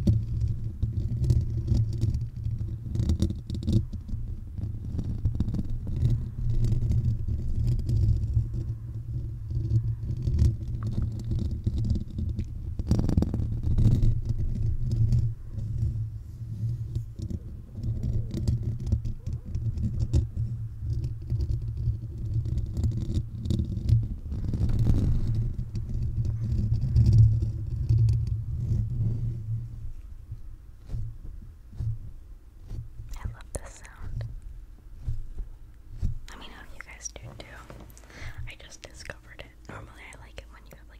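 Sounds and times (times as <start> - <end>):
fingers scratching microphone grille: 0.0 - 40.9.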